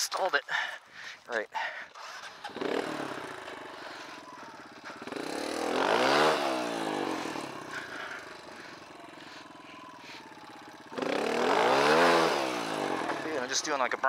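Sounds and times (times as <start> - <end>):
dirt bike engine revving: 1.9 - 14.0.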